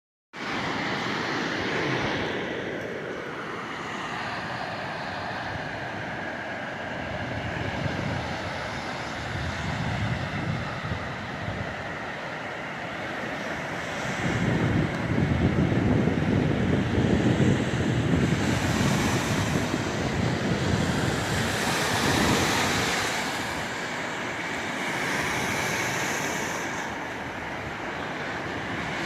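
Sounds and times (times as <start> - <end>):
low wind buffeting: 0.4 - 29.0
wind rushing over microphone: 0.4 - 29.0.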